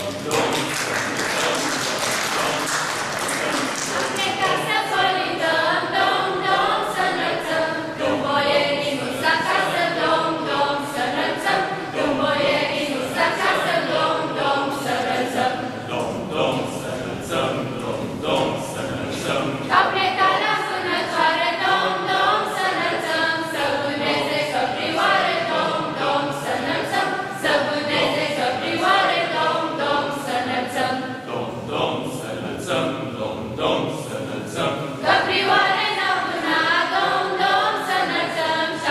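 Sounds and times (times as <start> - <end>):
young people singing a carol: 0.0 - 38.9.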